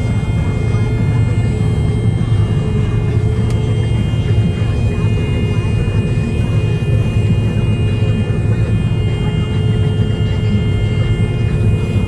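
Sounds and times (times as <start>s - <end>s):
combine harvester low drone: 0.0s - 12.0s
high-pitched whine: 0.0s - 12.0s.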